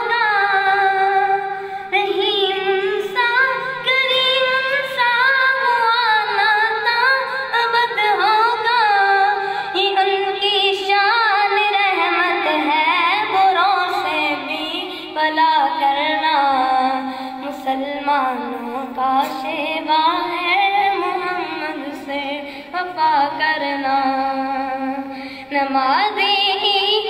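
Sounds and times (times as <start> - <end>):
person singing unaccompanied: 0.0 - 27.0.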